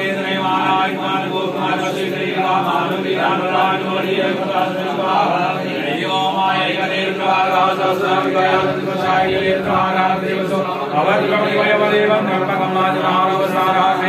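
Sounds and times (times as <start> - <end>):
voices chanting together: 0.0 - 14.0.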